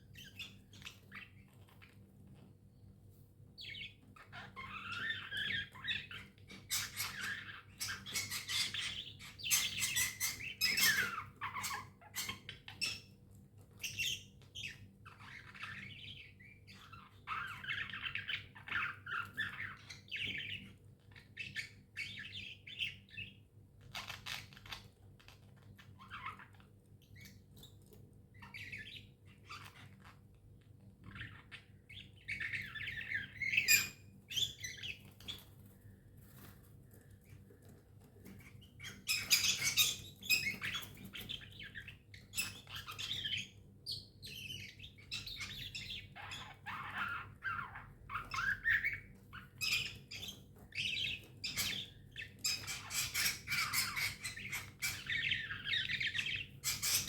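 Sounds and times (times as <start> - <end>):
budgerigars chirping and warbling: 0.0 - 2.4, 3.6 - 35.8, 37.2 - 57.0.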